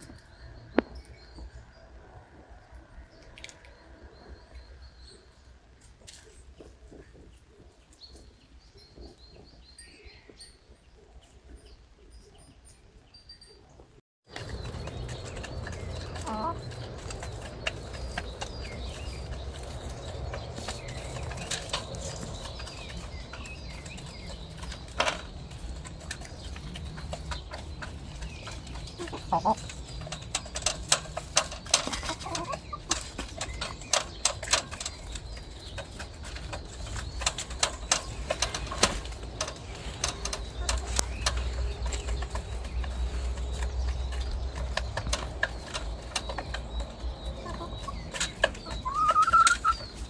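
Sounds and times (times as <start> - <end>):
faint small birds chirping: 0.0 - 50.0.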